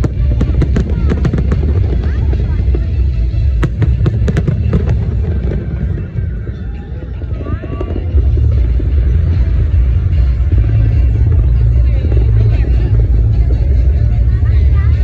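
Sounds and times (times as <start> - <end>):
fireworks cracking: 0.0 - 13.9
low booming rumble: 0.0 - 15.0.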